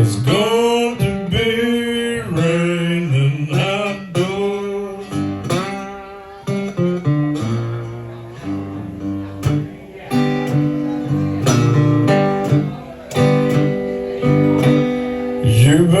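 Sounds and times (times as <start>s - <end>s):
acoustic guitar blues: 0.0s - 16.0s.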